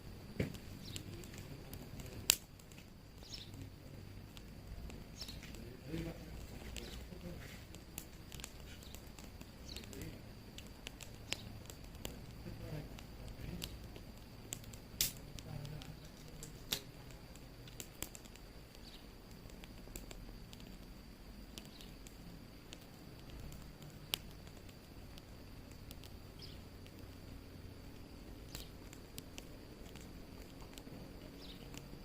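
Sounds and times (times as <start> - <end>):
low steady rumble: 0.0 - 32.0
wood fire crackling: 0.0 - 32.0.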